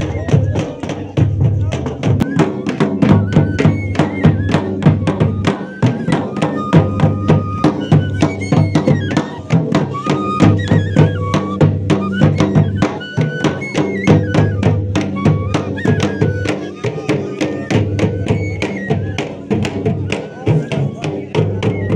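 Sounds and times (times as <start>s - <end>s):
fast steady drumbeat: 0.0s - 21.9s
small flutes playing folk melody: 0.0s - 21.9s.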